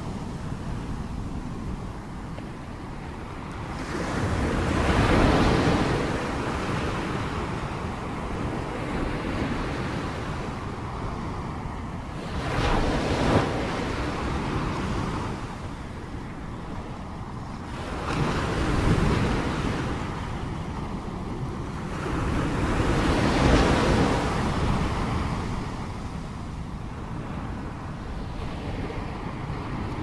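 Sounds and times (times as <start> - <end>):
sea waves breaking: 0.0 - 30.0
wind noise on microphone: 0.0 - 30.0.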